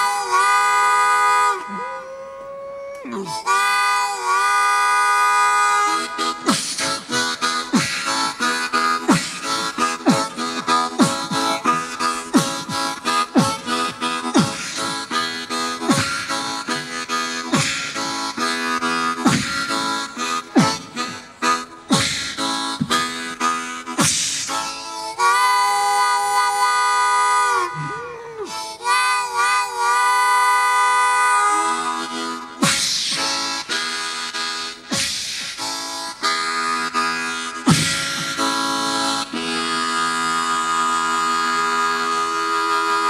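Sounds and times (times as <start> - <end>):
blues harmonica imitating a train: 0.0 - 43.0.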